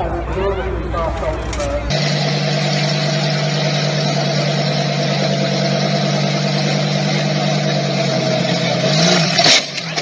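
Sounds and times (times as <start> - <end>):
road and wind noise: 0.0 - 10.0
vehicle engine drone: 0.0 - 10.0.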